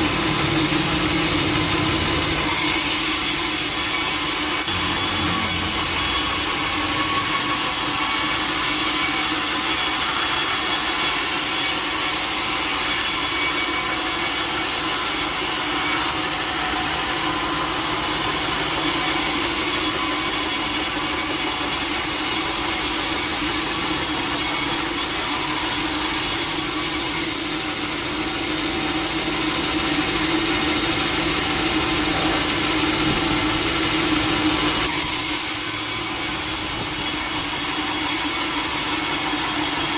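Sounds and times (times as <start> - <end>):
sawmill blade cutting log: 0.0 - 39.9.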